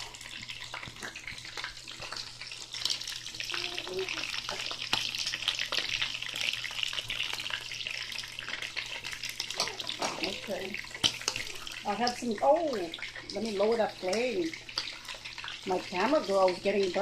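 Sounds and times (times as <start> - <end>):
chicken sizzling in hot oil: 0.0 - 17.0
oil popping and crackling: 0.0 - 17.0.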